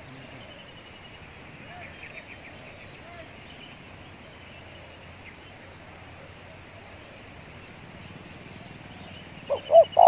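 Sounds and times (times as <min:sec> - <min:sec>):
faint bird chirp: 0:00.0 - 0:06.3, 0:07.6 - 0:10.0
insects droning: 0:00.0 - 0:10.0.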